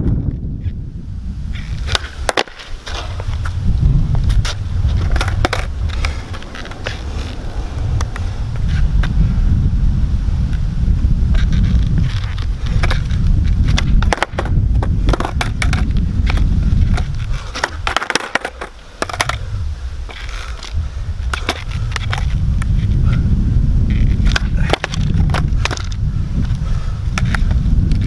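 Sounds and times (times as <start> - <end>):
wind rumble on microphone: 0.0 - 28.0
skateboard clacking on asphalt: 1.5 - 9.2, 11.3 - 23.2, 23.8 - 28.0.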